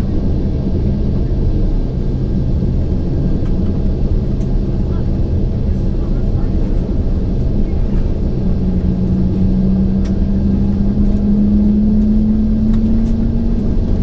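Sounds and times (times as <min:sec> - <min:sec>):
jet engines rumbling: 0:00.0 - 0:14.0
steady cabin hum: 0:00.0 - 0:14.0.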